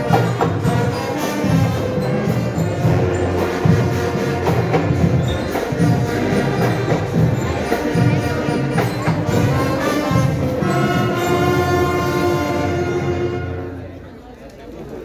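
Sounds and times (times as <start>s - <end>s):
marching band percussion: 0.0s - 13.9s
marching band brass: 0.0s - 14.0s.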